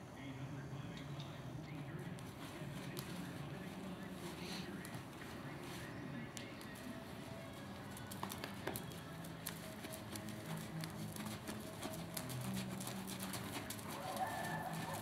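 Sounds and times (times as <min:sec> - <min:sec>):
hoofbeats on sand: 0:01.7 - 0:15.0.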